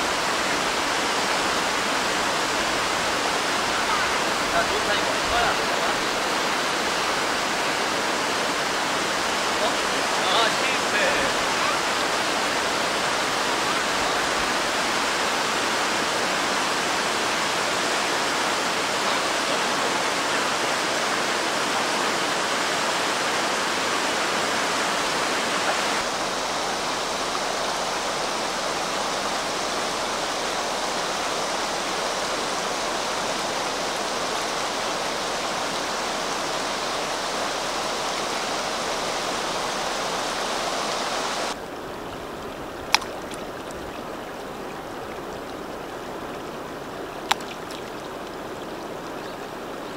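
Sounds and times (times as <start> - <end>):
river water rushing over weir: 0.0 - 49.9.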